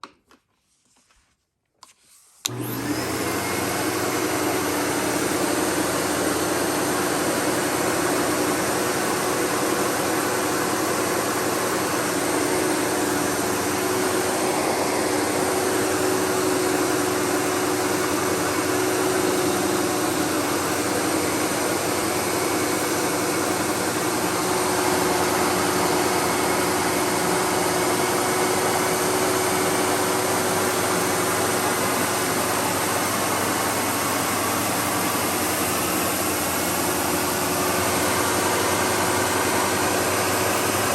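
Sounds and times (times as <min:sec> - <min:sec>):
vacuum cleaner running on carpet: 0:02.4 - 0:40.9.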